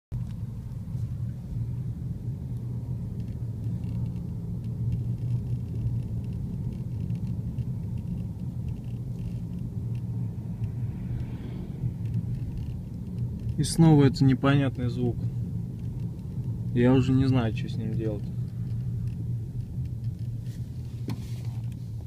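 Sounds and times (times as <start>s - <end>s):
car engine rumbling: 0.1s - 22.0s.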